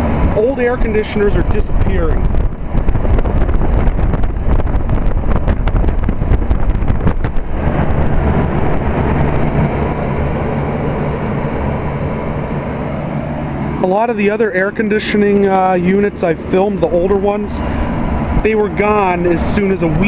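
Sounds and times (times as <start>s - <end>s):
air conditioner unit humming: 0.0s - 20.0s
wind buffeting microphone: 0.0s - 20.0s.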